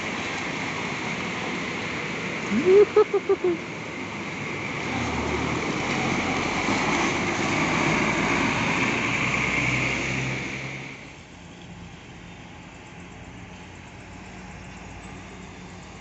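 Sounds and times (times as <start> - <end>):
bus diesel engine: 0.0 - 16.0
tyres rolling through mud: 0.0 - 16.0.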